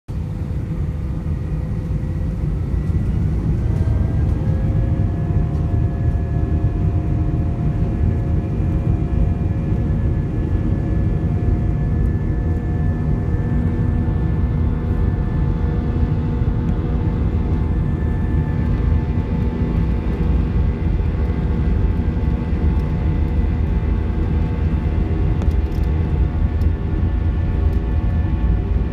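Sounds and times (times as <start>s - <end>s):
airplane engines powering up: 0.1s - 28.9s.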